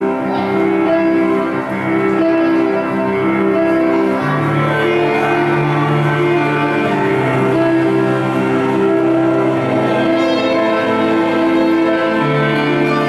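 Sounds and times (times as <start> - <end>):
instrumental music sustained notes: 0.0 - 13.0.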